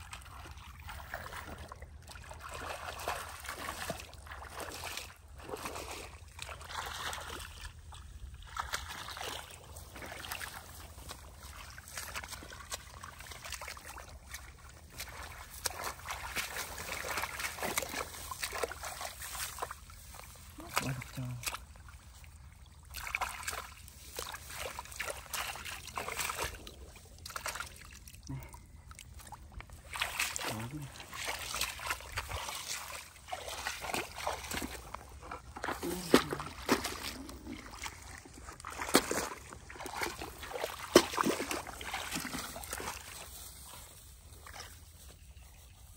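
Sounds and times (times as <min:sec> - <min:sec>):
splashing in muddy water: 0:00.0 - 0:45.9.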